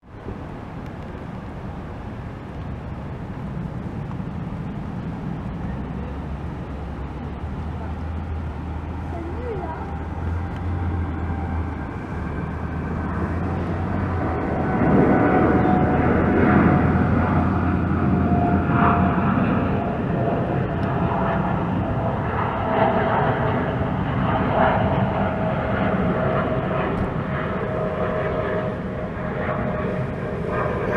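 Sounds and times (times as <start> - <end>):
jet engine roar with whine: 0.0 - 30.9.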